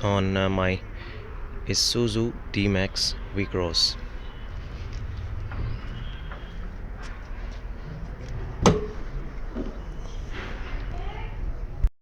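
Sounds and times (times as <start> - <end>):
steady low rumble: 0.0 - 11.7.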